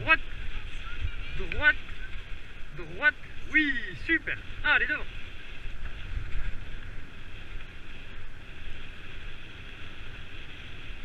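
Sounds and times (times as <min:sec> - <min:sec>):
bike tyres rolling on dirt: 0:00.0 - 0:11.0
continuous hiss: 0:00.0 - 0:11.0
wind buffeting microphone: 0:00.0 - 0:11.0.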